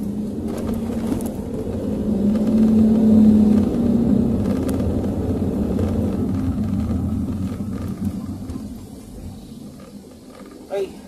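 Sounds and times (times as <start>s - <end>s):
car engine hum: 0.0s - 11.0s
road rumble inside car: 0.0s - 11.0s.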